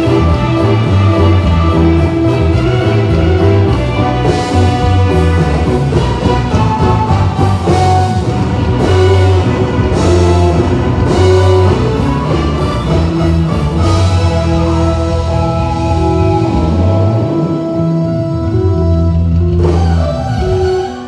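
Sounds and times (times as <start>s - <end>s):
loud instrumental music: 0.0s - 21.0s.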